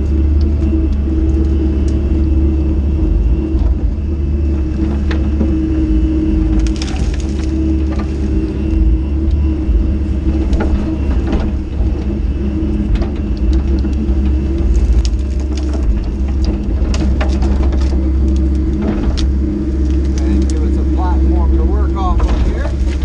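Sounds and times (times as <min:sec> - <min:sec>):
excavator diesel engine running: 0:00.0 - 0:23.0
brush cracking and snapping: 0:04.4 - 0:23.0.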